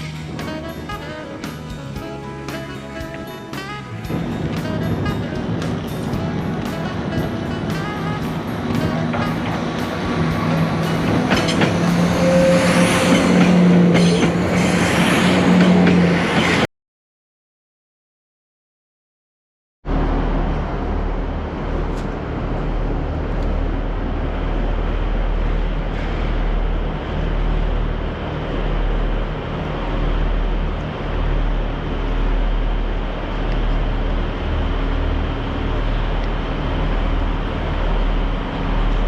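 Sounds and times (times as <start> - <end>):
train rumbling at speed: 0.0 - 16.7, 19.9 - 39.0.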